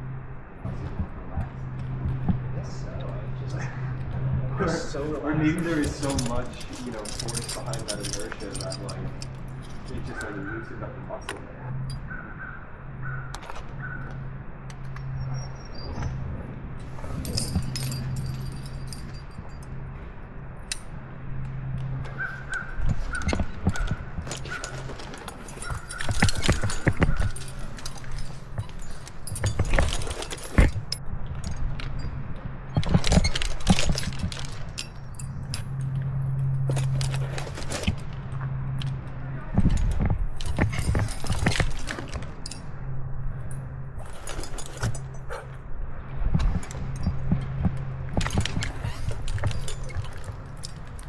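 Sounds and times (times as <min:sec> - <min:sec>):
metal climbing gear clinking: 0:00.0 - 0:51.0.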